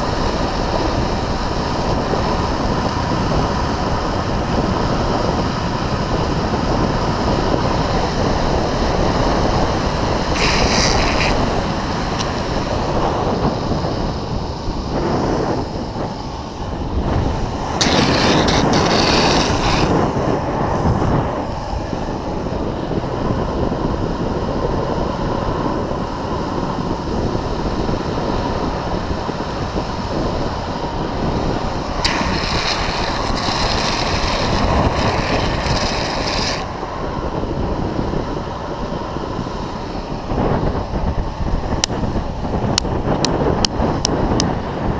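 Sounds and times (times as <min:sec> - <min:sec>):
wheels rolling on asphalt: 0:00.0 - 0:44.9
wind on microphone: 0:00.0 - 0:44.9.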